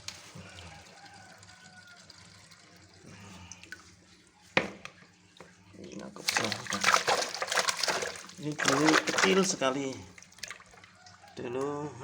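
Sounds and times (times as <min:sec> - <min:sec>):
water trickling and dripping: 0:00.0 - 0:11.7.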